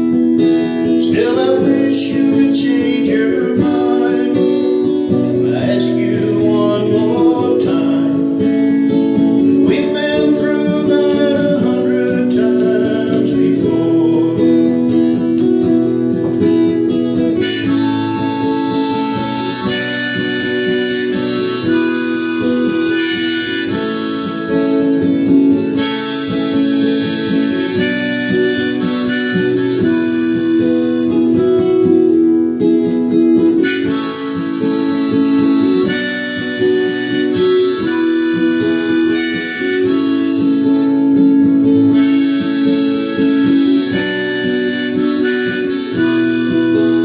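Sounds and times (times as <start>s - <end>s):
acoustic guitar: 0.0s - 47.0s
harmonica melody: 0.0s - 47.0s.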